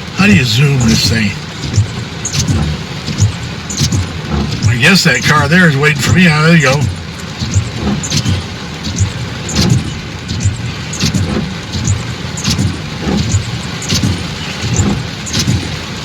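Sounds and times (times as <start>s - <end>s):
car engine and road rumble: 0.0s - 16.0s
rain splashing on car: 0.0s - 16.0s.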